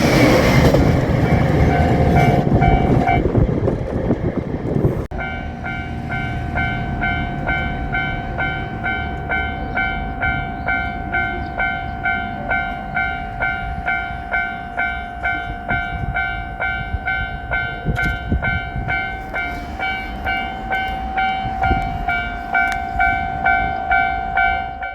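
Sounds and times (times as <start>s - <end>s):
level crossing warning bell: 0.0s - 3.3s, 5.1s - 24.9s
train rumbling: 0.0s - 24.9s.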